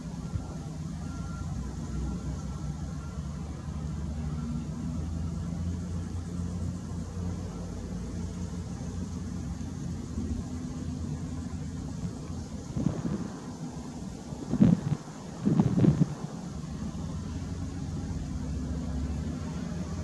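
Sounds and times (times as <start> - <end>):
wheel loader diesel engine: 0.0 - 20.0.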